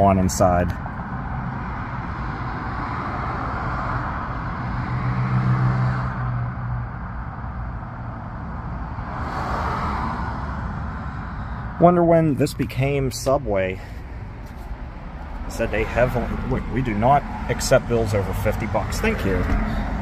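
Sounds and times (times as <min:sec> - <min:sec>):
passing cars: 0:00.0 - 0:20.0.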